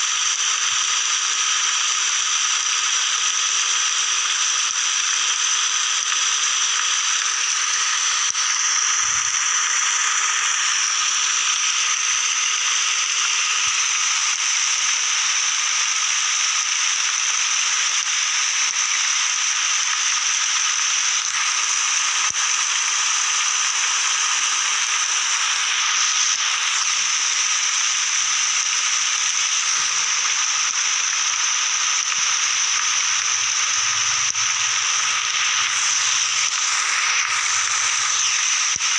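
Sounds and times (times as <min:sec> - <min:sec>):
steady rain falling: 0:00.3 - 0:19.1, 0:19.7 - 0:38.9.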